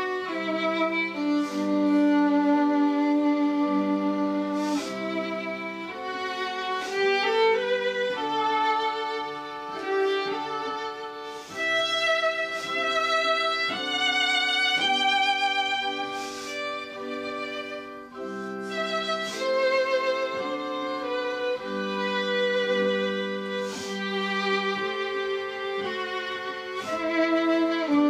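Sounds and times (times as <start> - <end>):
violin slow melody: 0.0 - 28.0.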